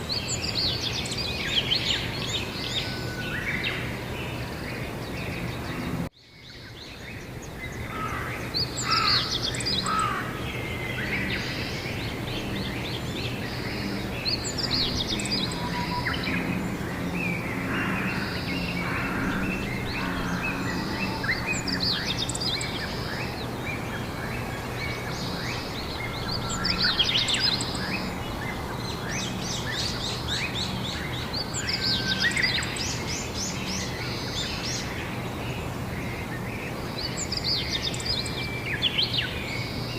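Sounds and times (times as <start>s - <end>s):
songbirds trilling: 0.0s - 39.9s.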